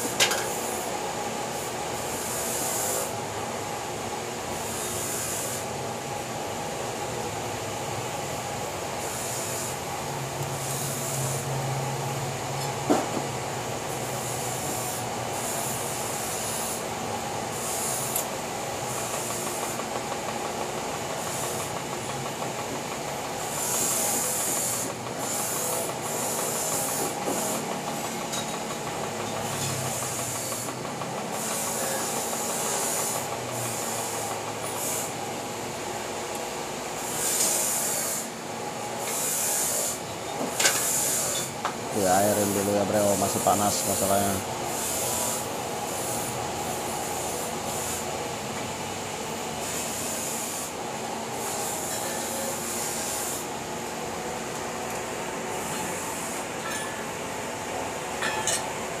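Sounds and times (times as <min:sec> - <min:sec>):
welding arc hissing: 0:00.0 - 0:07.1, 0:07.7 - 0:59.0
welding machine hum: 0:00.0 - 0:59.0.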